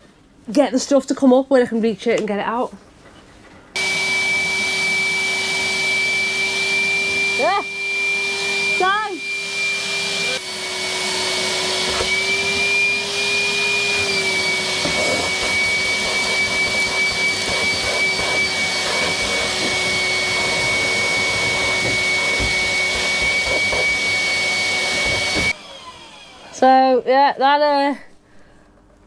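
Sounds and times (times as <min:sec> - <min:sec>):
vacuum cleaner whining: 0:03.8 - 0:27.1.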